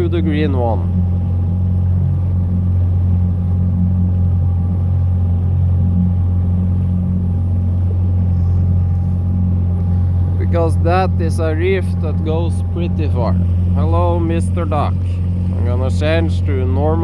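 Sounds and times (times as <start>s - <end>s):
outboard motor humming: 0.0s - 17.0s.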